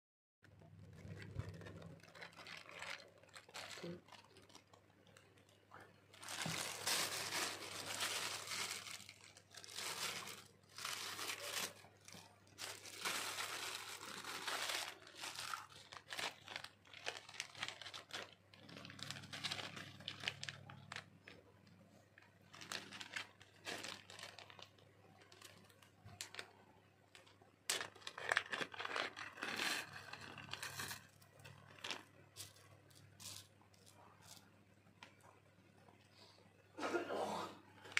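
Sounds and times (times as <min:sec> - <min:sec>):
plastic bags crinkling: 0:00.7 - 0:35.2.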